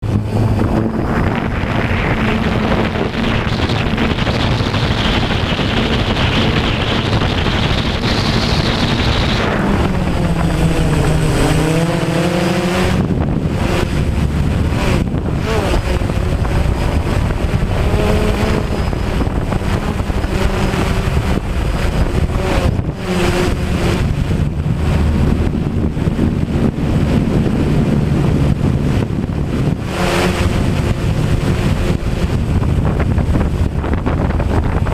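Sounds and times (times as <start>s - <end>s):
drone propellers whining: 0.0s - 34.9s
wind rumbling on microphone: 0.0s - 34.9s.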